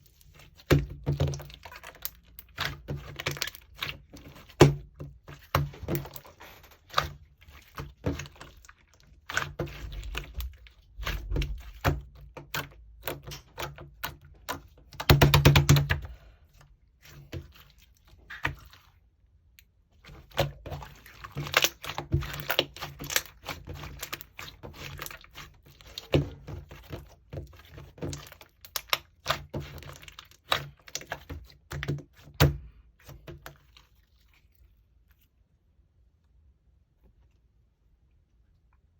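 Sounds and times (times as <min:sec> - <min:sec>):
slime squished by hand: 0:00.0 - 0:35.4.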